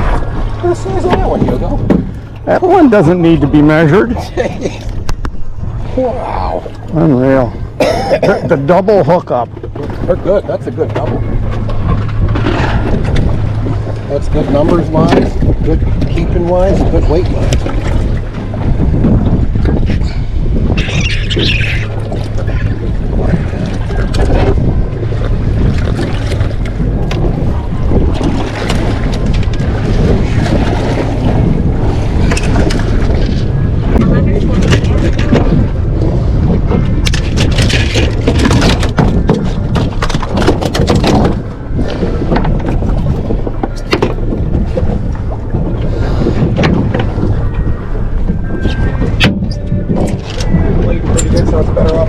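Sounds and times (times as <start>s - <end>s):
water against hull: 0.0s - 52.0s
wind buffeting microphone: 0.0s - 52.0s.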